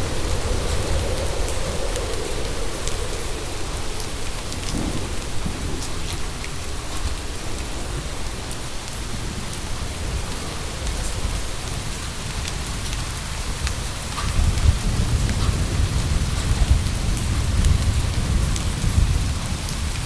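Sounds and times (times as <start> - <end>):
heavy rain: 0.0 - 20.0
low rumble of thunder: 0.0 - 20.0.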